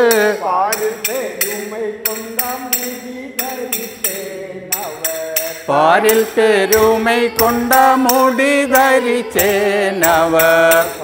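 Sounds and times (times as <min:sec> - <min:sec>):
men singing: 0:00.0 - 0:11.0
metallic cymbal beats: 0:00.0 - 0:11.0.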